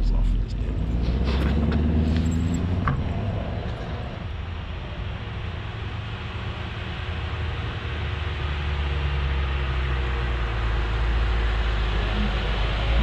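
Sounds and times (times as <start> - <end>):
background traffic: 0.0 - 13.0
car engine rumbling: 0.0 - 13.0.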